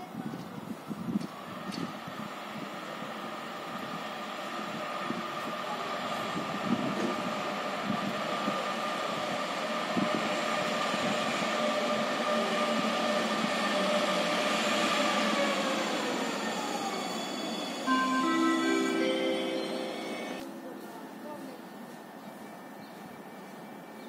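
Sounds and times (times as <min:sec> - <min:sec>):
train rumbling past: 0:00.0 - 0:21.2
train whine: 0:01.2 - 0:20.6.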